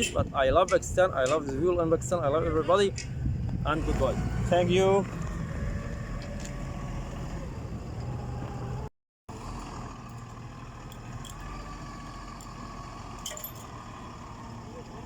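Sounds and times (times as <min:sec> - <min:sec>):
engine humming: 0:01.3 - 0:15.0.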